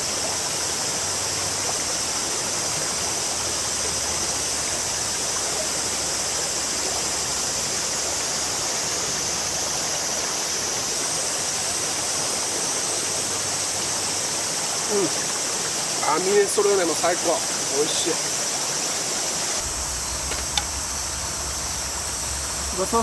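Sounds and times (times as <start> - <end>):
shallow stream flowing: 0.0 - 23.0.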